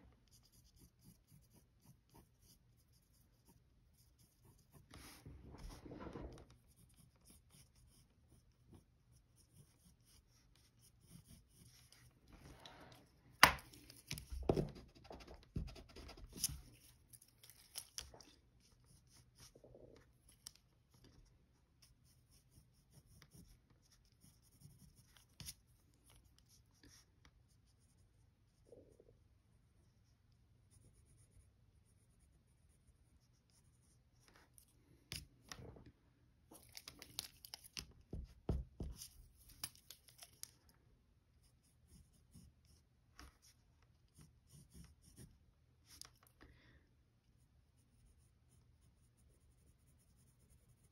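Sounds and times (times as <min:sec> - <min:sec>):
pencil scratching on paper: 0:00.2 - 0:28.7, 0:30.7 - 0:34.7, 0:41.4 - 0:46.1, 0:47.3 - 0:50.9.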